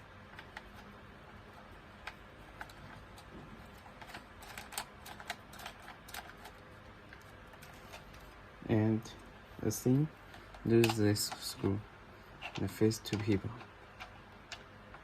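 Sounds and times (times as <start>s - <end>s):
small hard parts clicking and tapping: 0.0s - 8.4s, 9.0s - 15.0s.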